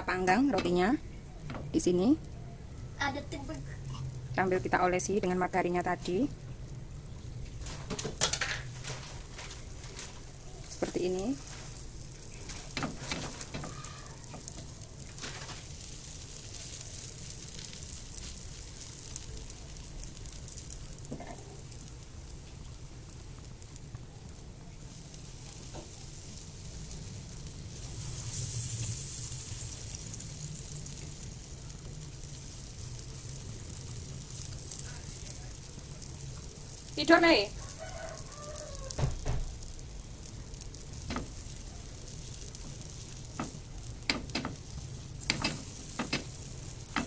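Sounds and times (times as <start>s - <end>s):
margarine sizzling in a frying pan: 0.0s - 47.0s.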